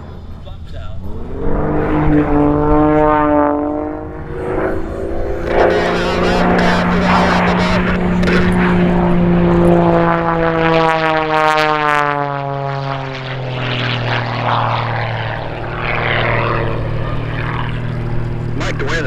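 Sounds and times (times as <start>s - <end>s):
propeller plane engine passing: 0.0s - 19.0s.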